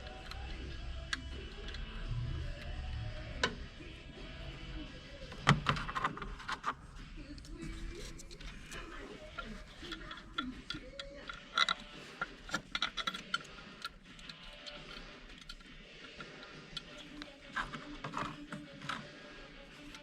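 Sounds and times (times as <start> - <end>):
hand tools clicking and ticking: 0.0 - 3.6, 7.4 - 20.0
faint background music: 0.0 - 20.0.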